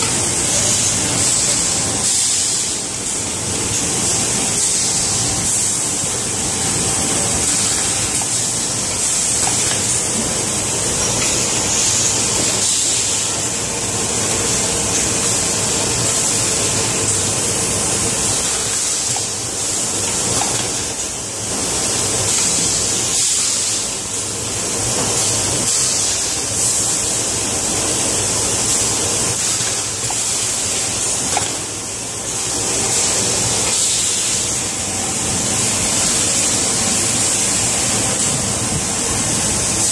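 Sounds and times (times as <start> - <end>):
machine hissing: 0.0 - 39.9.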